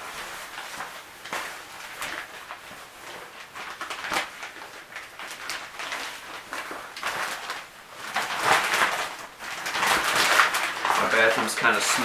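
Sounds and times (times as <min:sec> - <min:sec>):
shower curtain rustling: 0:00.0 - 0:12.0
sharp short crinkles: 0:00.5 - 0:12.0.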